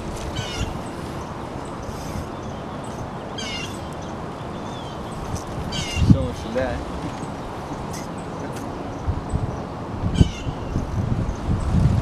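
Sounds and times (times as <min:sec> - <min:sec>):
bird chirping: 0:00.0 - 0:11.6
steady background rush: 0:00.0 - 0:12.0.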